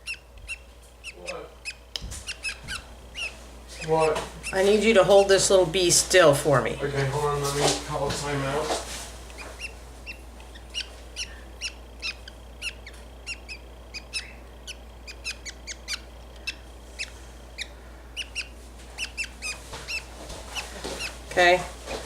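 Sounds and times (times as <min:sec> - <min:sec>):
budgie chick chirping: 0:00.0 - 0:21.6.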